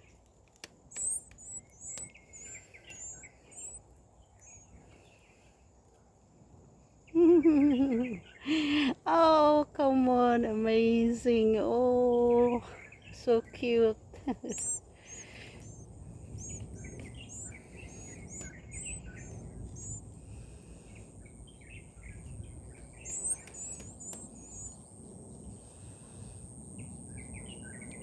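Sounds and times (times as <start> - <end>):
small birds chirping: 0.0 - 6.1, 6.9 - 28.0
faint high whine: 0.8 - 8.4, 10.5 - 28.0.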